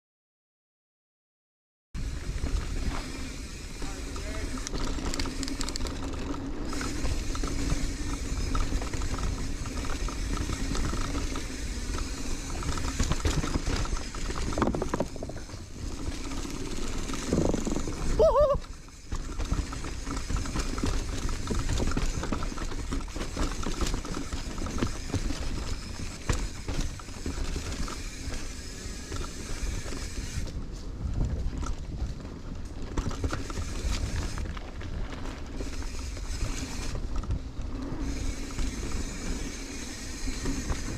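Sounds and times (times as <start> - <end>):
bike rattling and knocking: 2.0 - 40.9
bike tyre rumble: 2.0 - 40.9.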